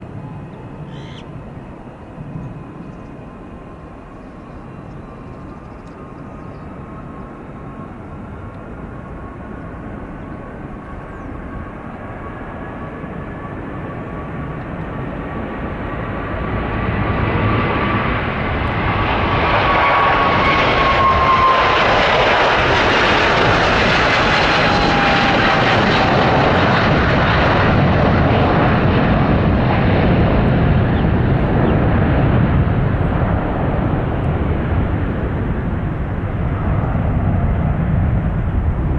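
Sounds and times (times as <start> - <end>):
jet engine whine: 0.0 - 38.9
jet engines roaring at takeoff: 0.0 - 38.9.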